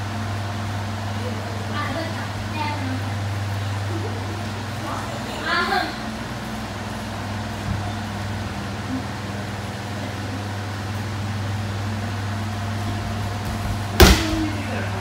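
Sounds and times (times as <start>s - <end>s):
electric fans humming: 0.0s - 15.0s.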